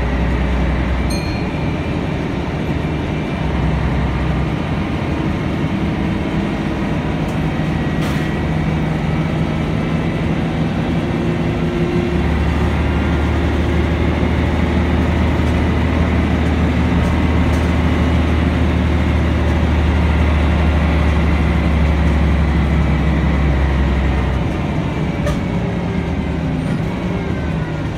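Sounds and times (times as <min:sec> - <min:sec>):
bus engine drone: 0:00.0 - 0:27.9
road noise: 0:00.0 - 0:27.9.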